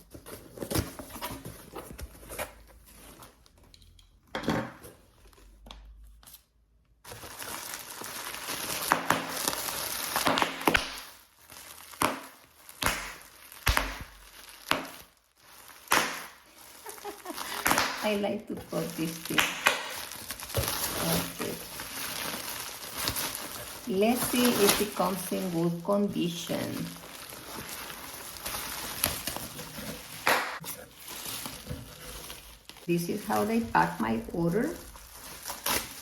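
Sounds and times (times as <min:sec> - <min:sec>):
packaging crinkling and rustling: 0:07.0 - 0:36.0
sharp crackles of packaging: 0:07.0 - 0:36.0.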